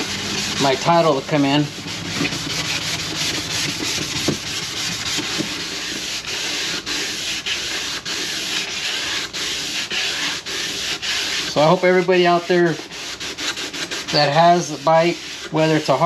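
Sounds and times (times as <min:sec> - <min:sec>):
sandpaper rubbing wet surface: 0:00.0 - 0:16.0.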